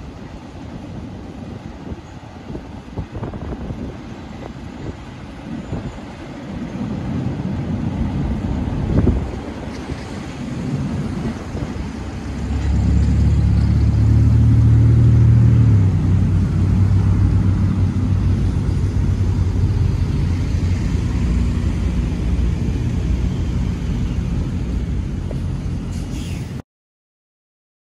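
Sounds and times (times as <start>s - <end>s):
diesel locomotive engines droning: 0.0s - 26.6s.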